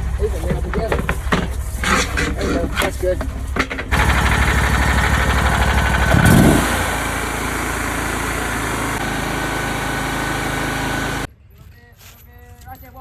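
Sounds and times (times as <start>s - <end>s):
engine running: 0.0s - 11.3s.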